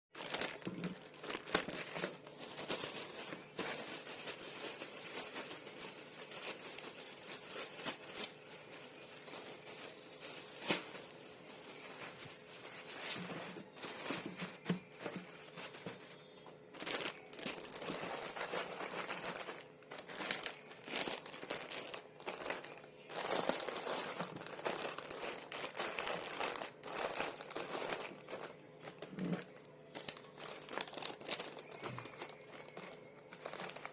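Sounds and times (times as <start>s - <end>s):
plastic tearing: 0.2s - 16.0s, 16.7s - 33.9s
plastic packaging crinkling: 0.2s - 33.9s.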